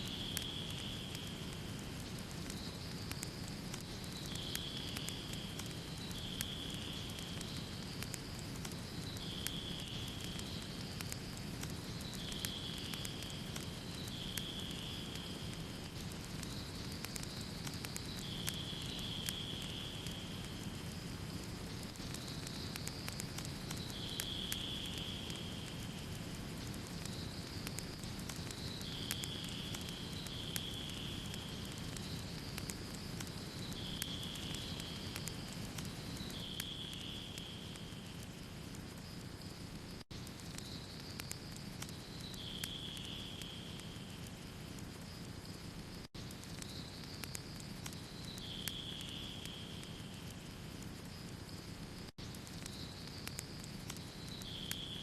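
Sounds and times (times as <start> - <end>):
sharp pops of fire: 0.0 - 55.0
soft hiss: 0.0 - 55.0
wood fire crackling: 0.0 - 55.0.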